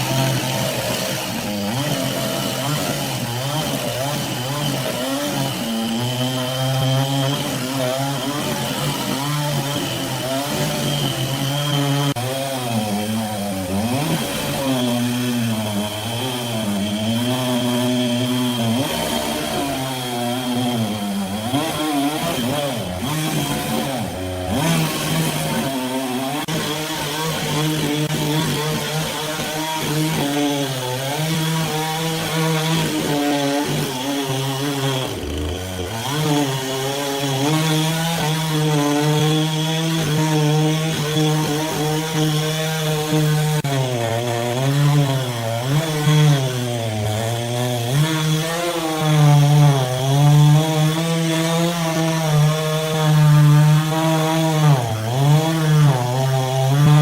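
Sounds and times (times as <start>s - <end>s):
chainsaw mill cutting wood: 0.0s - 57.0s.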